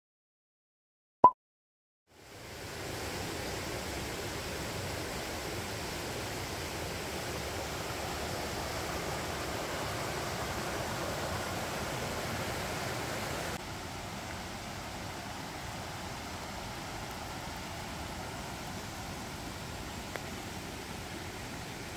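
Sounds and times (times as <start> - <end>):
stream rushing over stones: 2.2 - 21.9.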